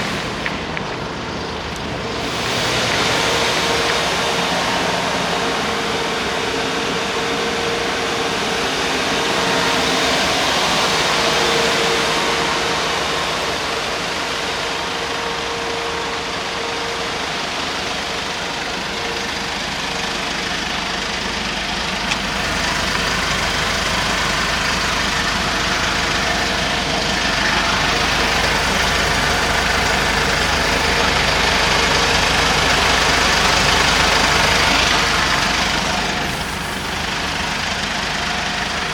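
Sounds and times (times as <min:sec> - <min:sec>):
diesel van engine idling: 0:00.0 - 0:38.9.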